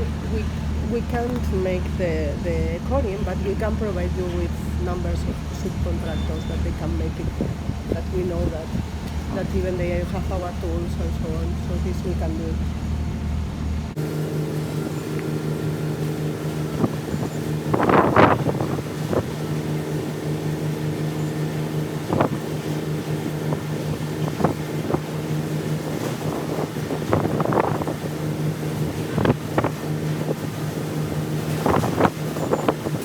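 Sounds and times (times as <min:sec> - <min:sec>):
machine humming: 0:00.0 - 0:33.0.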